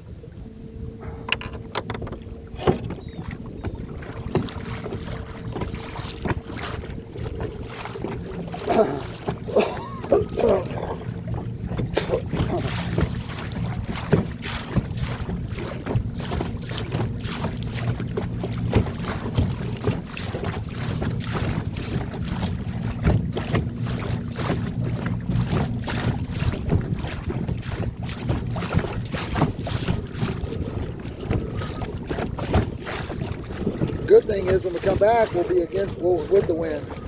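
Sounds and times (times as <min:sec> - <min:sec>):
boat motor running: 0:00.0 - 0:37.0
wind buffeting microphone: 0:00.0 - 0:37.0
hull slapping through waves: 0:01.0 - 0:37.0.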